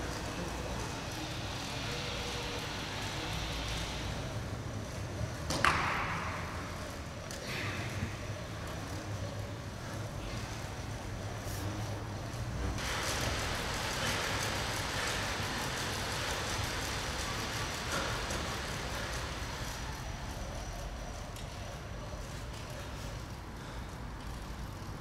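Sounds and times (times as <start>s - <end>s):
exercise machines whirring: 0.0s - 25.0s.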